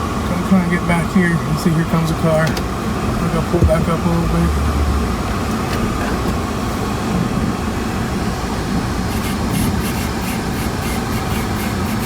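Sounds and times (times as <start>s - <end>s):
car engine rumble in cabin: 0.0s - 12.0s.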